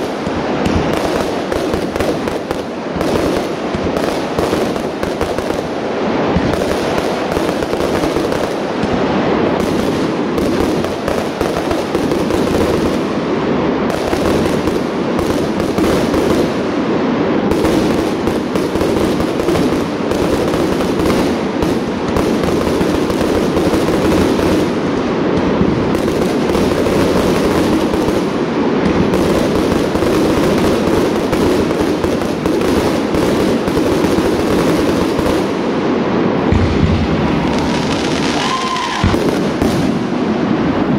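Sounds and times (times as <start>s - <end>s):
firework bursts and crackle: 0.0s - 40.9s.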